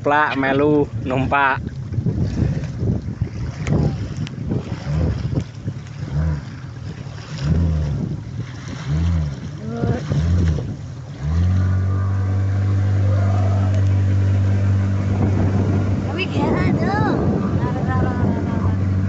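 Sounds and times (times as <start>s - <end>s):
outboard motor starting and running: 0.0s - 19.0s.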